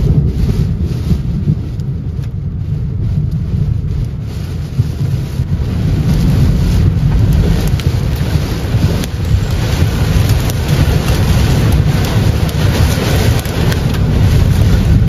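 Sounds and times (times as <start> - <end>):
rain pelting windshield: 0.0 - 15.0
wind and road noise: 0.0 - 15.0.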